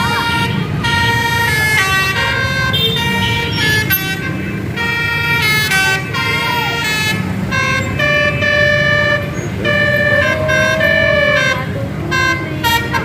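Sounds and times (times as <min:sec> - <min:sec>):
multi-tone musical air horn: 0:00.0 - 0:13.0.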